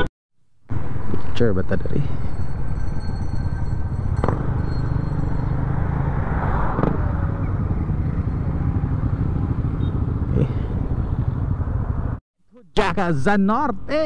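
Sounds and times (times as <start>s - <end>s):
motorcycle engines rumbling: 0.7s - 12.2s.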